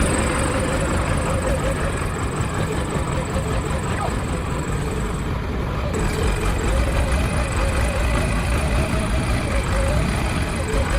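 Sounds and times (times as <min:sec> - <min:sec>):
diesel engine rumbling: 0:00.0 - 0:10.9.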